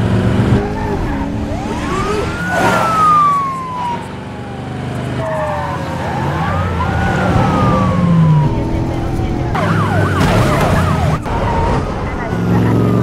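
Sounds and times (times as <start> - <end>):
car engines humming: 0.0 - 13.0
police siren wailing: 0.6 - 13.0.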